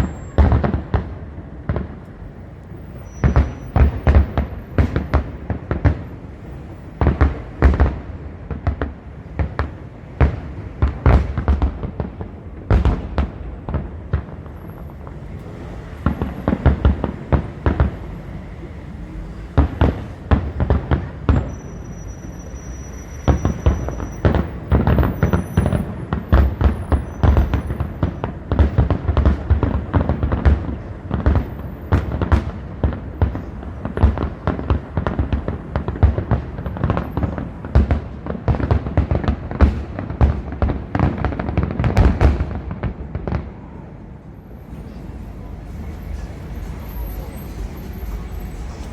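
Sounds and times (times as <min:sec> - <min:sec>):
fireworks bangs and booms: 0:00.0 - 0:48.9.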